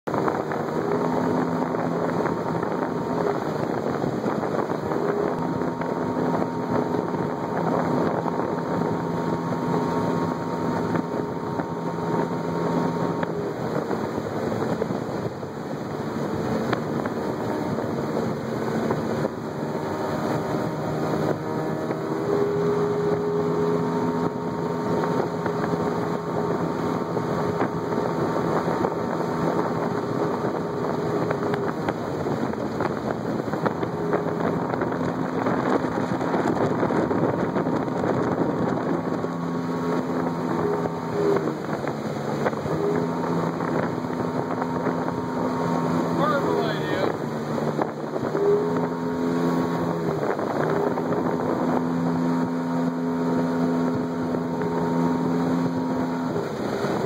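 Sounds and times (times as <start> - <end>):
boat engine drone: 0.0 - 57.0
wind rushing on microphone: 0.1 - 57.0.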